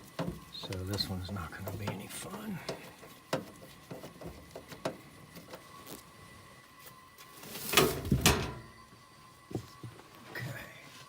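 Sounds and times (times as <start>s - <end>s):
faint steady whine: 0.0s - 11.0s.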